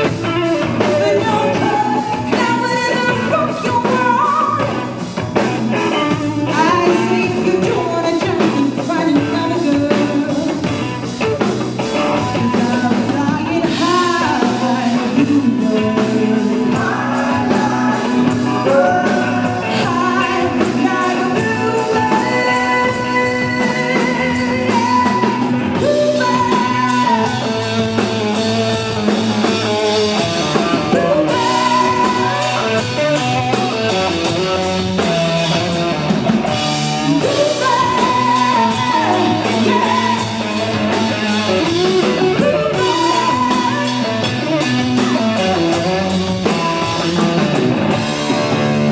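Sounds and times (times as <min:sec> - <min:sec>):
person singing: 0:00.0 - 0:05.0, 0:05.8 - 0:11.0, 0:11.9 - 0:28.6, 0:30.5 - 0:33.8, 0:36.5 - 0:47.5
drums: 0:00.0 - 0:48.9
electric guitar: 0:00.0 - 0:48.9.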